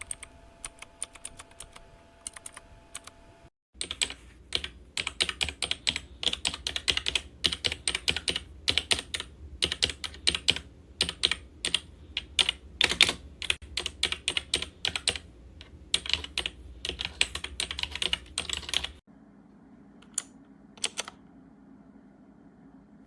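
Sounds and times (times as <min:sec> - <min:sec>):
fast typing on mechanical keyboard: 0:00.0 - 0:03.2, 0:03.8 - 0:15.3, 0:15.9 - 0:19.0, 0:20.2 - 0:21.2
faint steady hum: 0:00.0 - 0:23.0.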